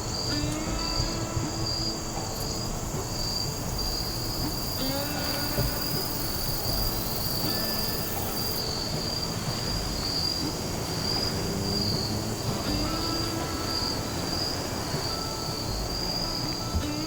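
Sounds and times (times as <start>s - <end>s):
insects chirping: 0.0s - 17.0s
low rumbling background noise: 0.0s - 17.0s.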